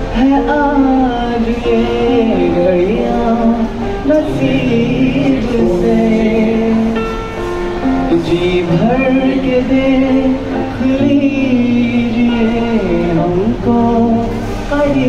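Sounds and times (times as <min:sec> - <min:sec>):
electric guitar: 0:00.0 - 0:15.0
man singing into a microphone: 0:00.0 - 0:15.0.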